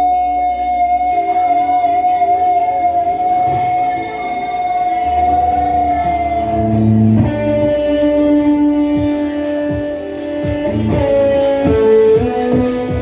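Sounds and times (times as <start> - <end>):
band playing led by guitar: 0.4 - 13.0.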